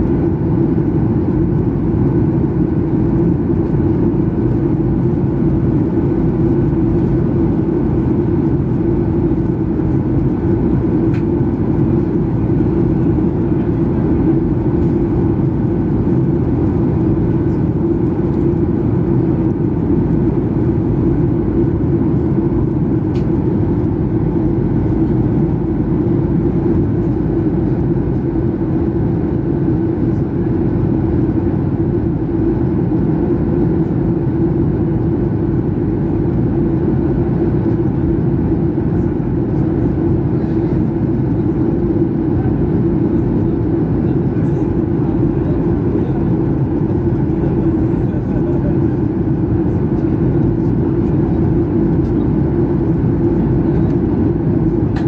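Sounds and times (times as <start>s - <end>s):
airplane cabin rush and hum: 0.0s - 55.0s.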